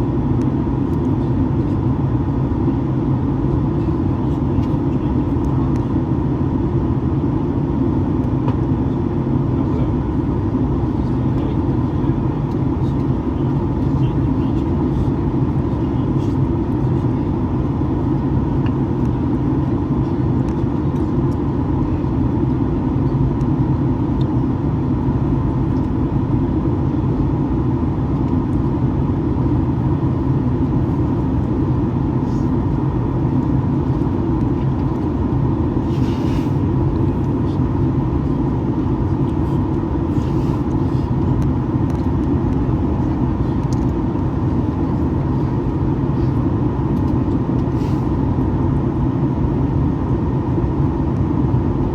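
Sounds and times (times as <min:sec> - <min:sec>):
airplane cabin engine drone: 0:00.0 - 0:51.9
constant hum: 0:00.0 - 0:51.9.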